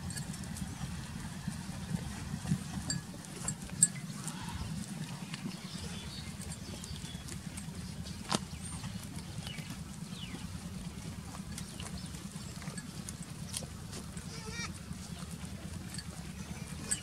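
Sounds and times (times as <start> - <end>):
goats cropping and chewing grass: 0.0 - 17.0.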